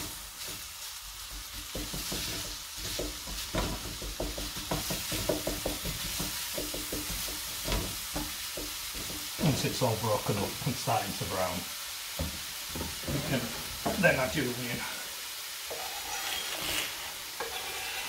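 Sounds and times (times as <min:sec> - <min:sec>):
wooden spatula scraping a pan: 0:00.0 - 0:11.6, 0:12.2 - 0:15.0, 0:15.6 - 0:18.0
mince sizzling in a frying pan: 0:00.0 - 0:18.0.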